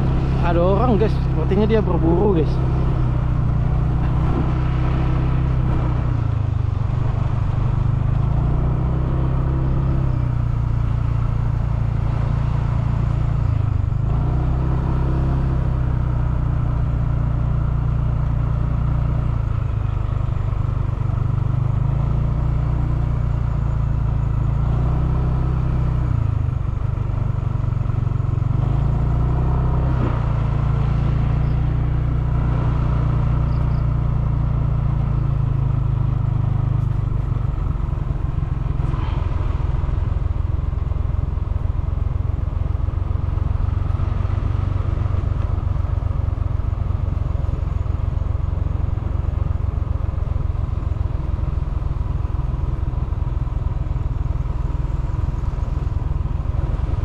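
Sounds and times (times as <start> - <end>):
motorcycle engine droning: 0.0 - 57.0.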